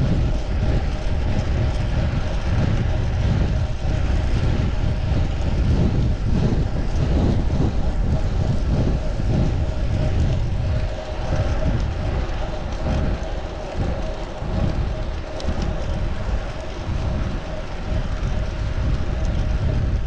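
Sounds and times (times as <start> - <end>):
faint steady hum: 0.0 - 20.0
wind buffeting microphone: 0.0 - 20.0.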